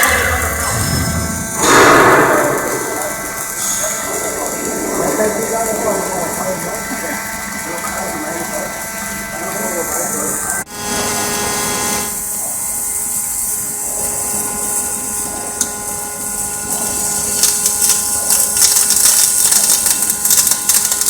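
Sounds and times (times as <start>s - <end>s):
welding arc crackle: 0.0s - 21.0s.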